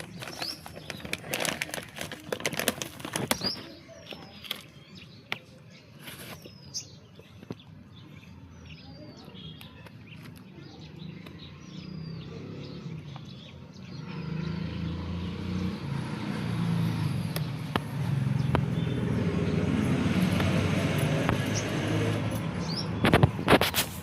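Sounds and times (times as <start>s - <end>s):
vehicle engine rumbling: 0.0s - 8.6s, 9.4s - 24.0s.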